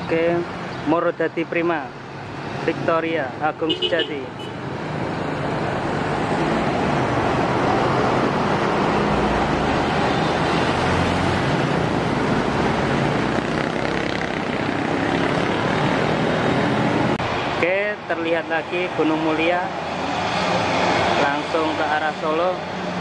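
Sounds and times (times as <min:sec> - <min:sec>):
motorcycles passing: 0:00.0 - 0:23.0
truck passing: 0:01.8 - 0:23.0.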